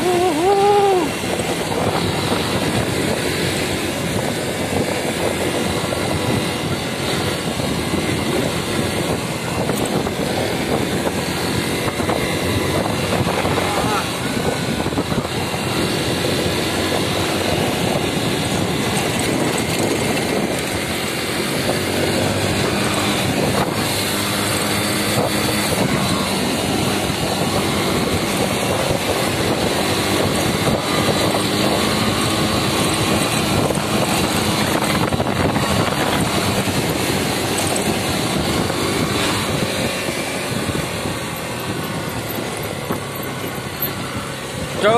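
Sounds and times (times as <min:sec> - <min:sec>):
motorcycle engine cruising: 0:00.0 - 0:44.9
road noise: 0:00.0 - 0:44.9
wind noise: 0:00.0 - 0:44.9.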